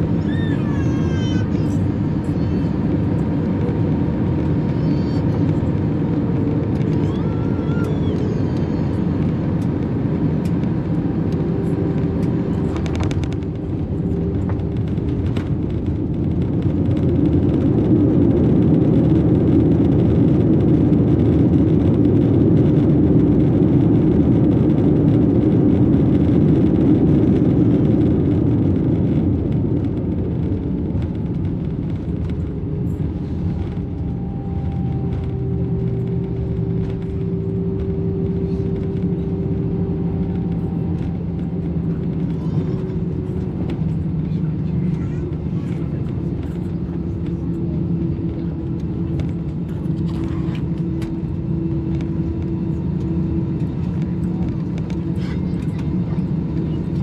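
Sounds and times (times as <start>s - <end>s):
aircraft engine and runway rumble: 0.0s - 57.0s.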